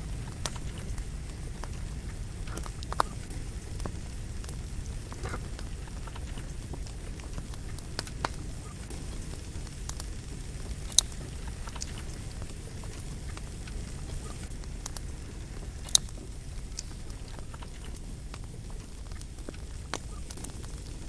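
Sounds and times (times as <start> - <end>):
campfire flames rushing: 0.0 - 21.0
fire crackling: 0.0 - 21.0
logs popping: 0.0 - 21.0.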